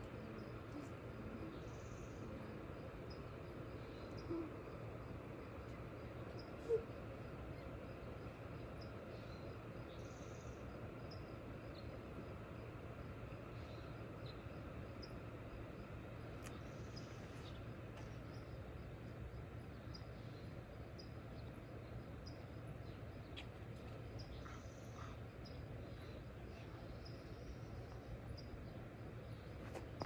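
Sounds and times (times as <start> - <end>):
constant low hum: 0.0 - 30.0.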